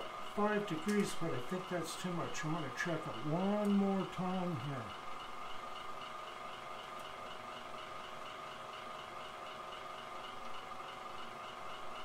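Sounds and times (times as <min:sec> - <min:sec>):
faint pulsing high whine: 0:00.0 - 0:12.0
steady machine hum: 0:00.0 - 0:12.0.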